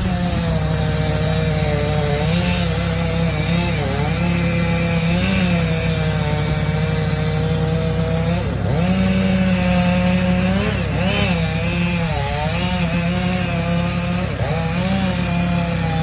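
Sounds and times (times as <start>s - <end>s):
chainsaw running at high revs: 0.0s - 16.0s.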